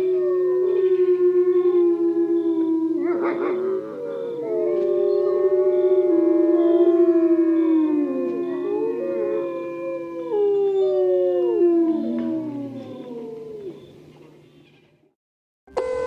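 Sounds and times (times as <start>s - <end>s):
dogs howling in chorus: 0.0s - 14.4s.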